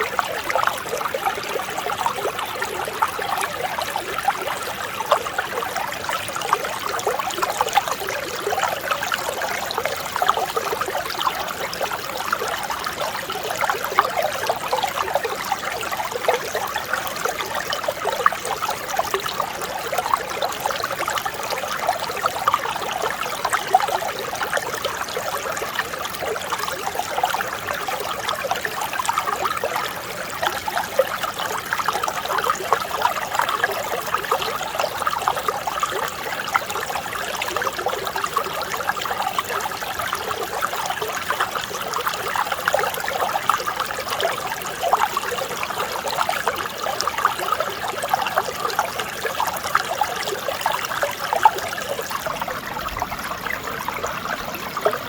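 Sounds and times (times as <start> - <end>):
mountain stream babbling: 0.0 - 55.0.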